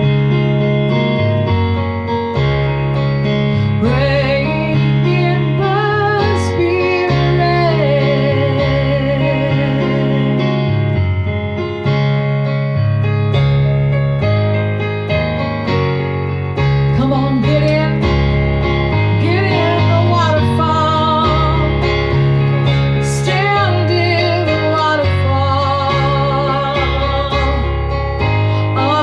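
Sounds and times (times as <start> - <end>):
keyboard chords: 0.0 - 29.0.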